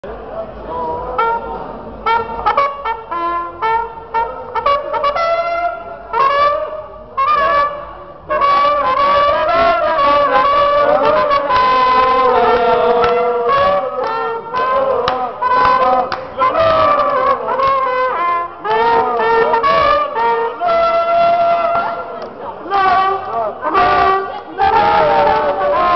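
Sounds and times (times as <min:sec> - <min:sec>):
brass horn playing melody: 0:01.2 - 0:25.9.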